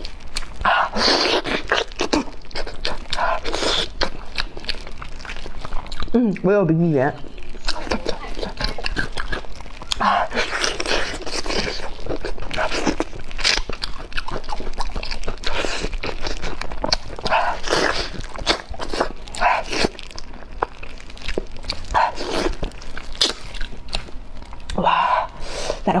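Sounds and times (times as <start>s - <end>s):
wet chewing and biting: 0.0s - 6.5s, 7.2s - 25.9s.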